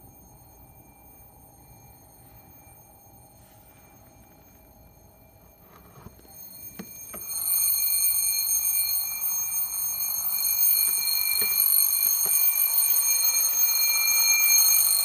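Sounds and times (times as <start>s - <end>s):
alarm clock ringing: 0.0s - 15.0s.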